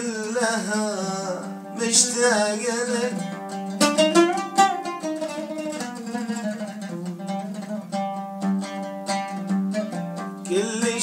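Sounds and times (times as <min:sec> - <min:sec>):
oud plucked melody: 0:00.0 - 0:11.0.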